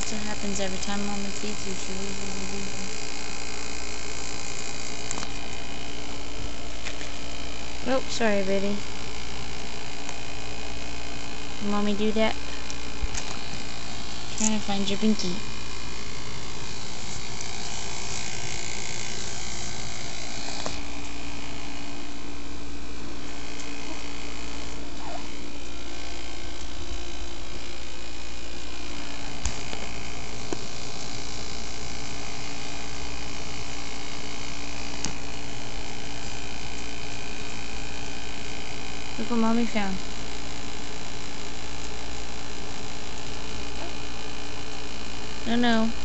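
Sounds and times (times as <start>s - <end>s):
electrical hum with hiss: 0.0s - 46.0s.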